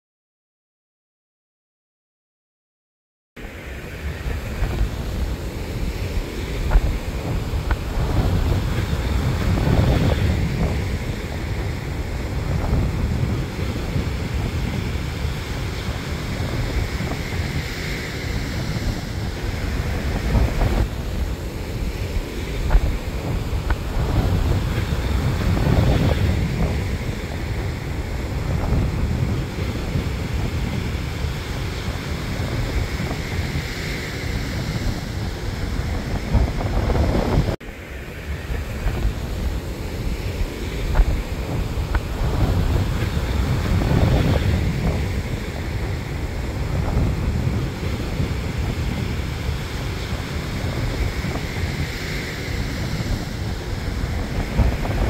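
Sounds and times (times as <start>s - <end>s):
surf washing up on beach: 3.4s - 55.0s
wind rumbling on microphone: 3.4s - 55.0s.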